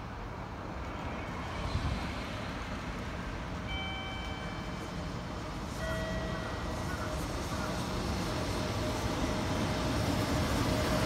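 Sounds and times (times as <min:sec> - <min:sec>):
freight train rumble: 0:00.0 - 0:11.0.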